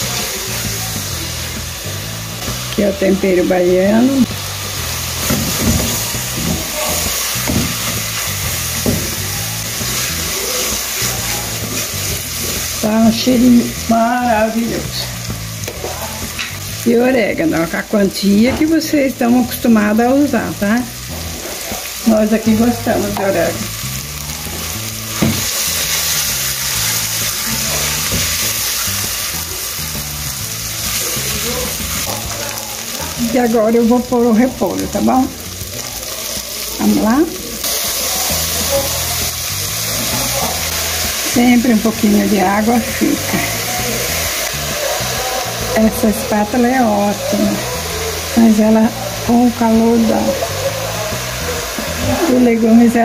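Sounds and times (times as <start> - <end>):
vegetables sizzling in oil: 0.0 - 53.0.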